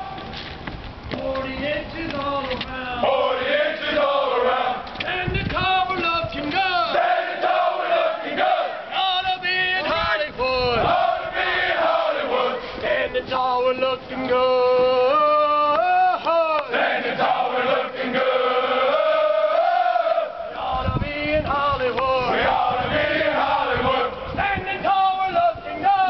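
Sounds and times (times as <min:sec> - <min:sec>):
men chanting marching cadence: 0:01.2 - 0:26.0.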